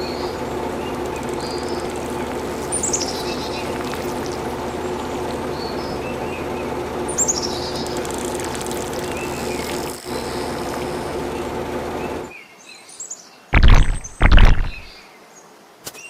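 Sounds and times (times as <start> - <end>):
birds chirping: 0.0 - 12.2, 13.6 - 15.1.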